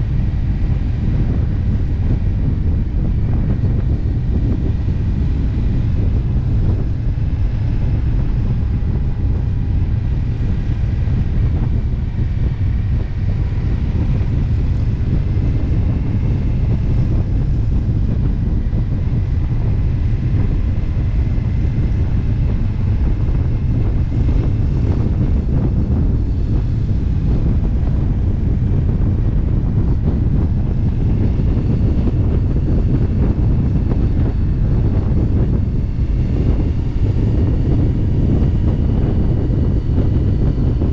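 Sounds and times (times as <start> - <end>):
motorcycle engine: 0.0 - 40.9
wind rumble on microphone: 0.0 - 40.9.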